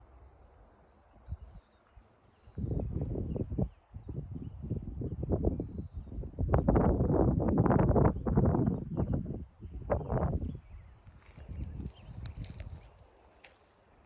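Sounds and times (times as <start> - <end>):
high pulsing insect trill: 0.0 - 14.0.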